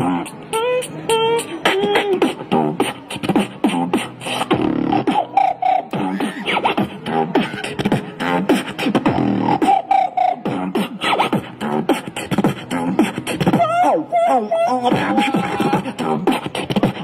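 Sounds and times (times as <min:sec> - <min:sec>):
beatboxing into microphone: 0:00.0 - 0:17.0.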